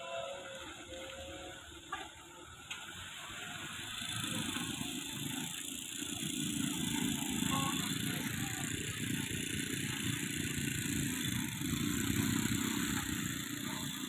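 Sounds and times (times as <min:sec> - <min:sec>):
truck engines rumbling: 0:00.0 - 0:14.0.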